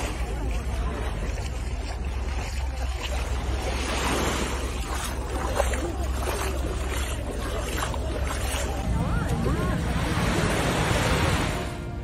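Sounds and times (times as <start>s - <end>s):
sea waves: 0.0s - 12.0s
steady low rumble: 0.0s - 12.0s.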